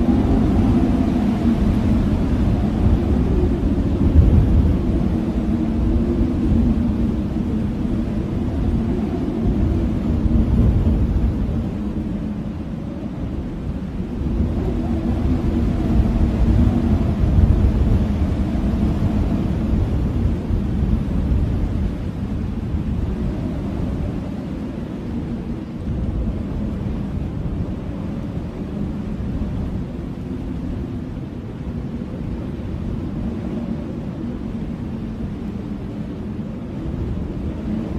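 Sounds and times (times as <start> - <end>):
blizzard wind blowing hard: 0.0 - 37.9.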